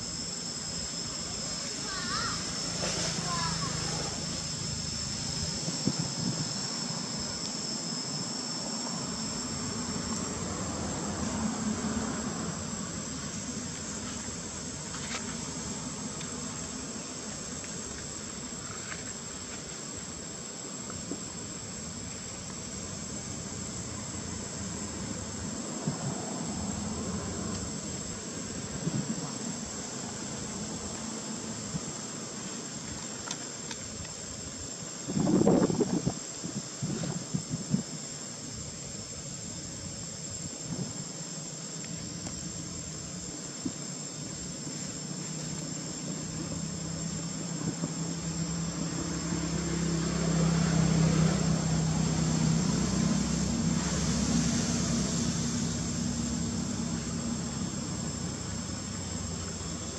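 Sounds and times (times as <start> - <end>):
insects chirring: 0.0 - 59.9
lower insect drone: 0.0 - 59.9.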